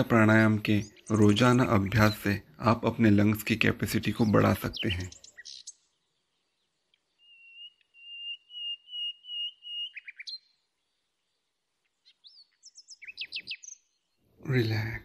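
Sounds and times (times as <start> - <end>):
bird chirps: 0.0 - 15.0
songbird calling: 0.0 - 15.0.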